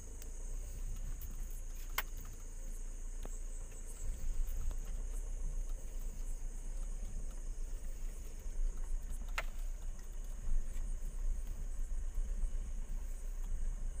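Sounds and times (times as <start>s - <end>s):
crickets chirring: 0.0s - 14.0s
vehicle engine humming: 0.0s - 14.0s.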